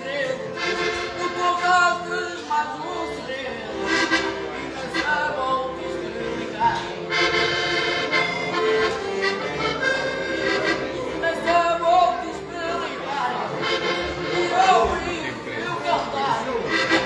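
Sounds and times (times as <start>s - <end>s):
accordions playing chords: 0.0s - 17.0s.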